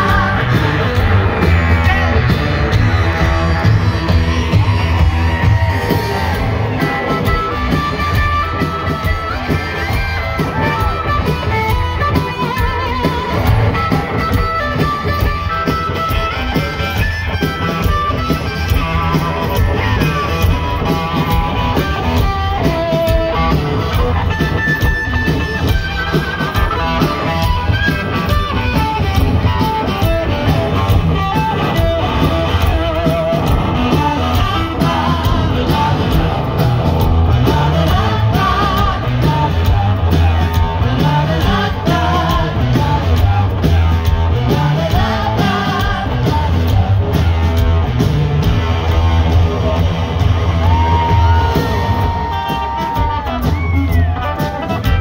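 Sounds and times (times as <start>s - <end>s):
drum kit beat: 0.0s - 55.0s
electric guitar: 0.0s - 55.0s
live rock band playing: 0.0s - 55.0s.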